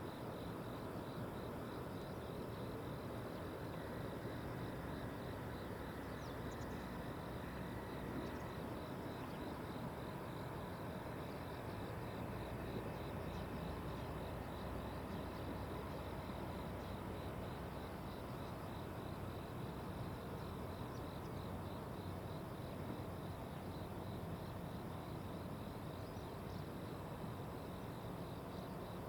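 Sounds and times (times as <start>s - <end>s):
insects chirring: 0.1s - 29.0s.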